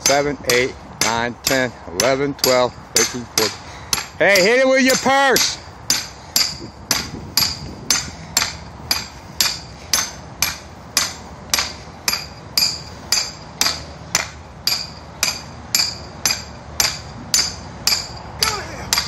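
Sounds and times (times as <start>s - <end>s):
hammer striking metal: 0.0s - 19.0s.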